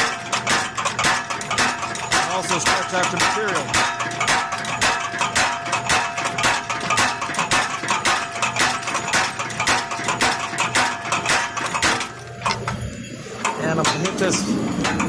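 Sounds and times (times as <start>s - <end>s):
power hammer striking hot steel: 0.0s - 15.0s.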